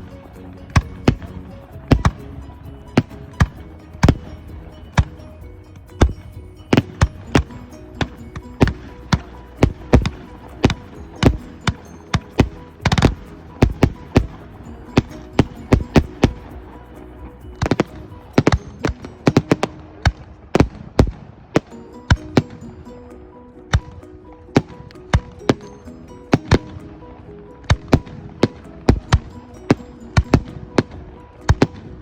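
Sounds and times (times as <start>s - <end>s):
music: 0.0s - 32.0s.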